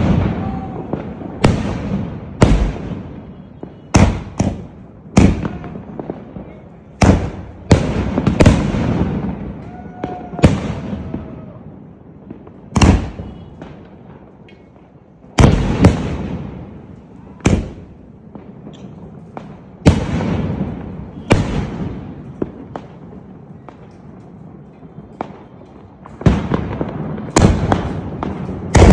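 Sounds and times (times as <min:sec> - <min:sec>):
firework bangs: 0:00.0 - 0:28.9.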